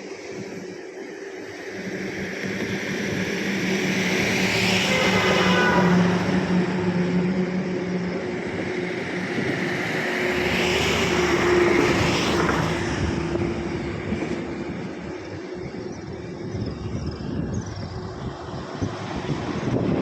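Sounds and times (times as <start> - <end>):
vehicle engine running: 1.4 - 19.8.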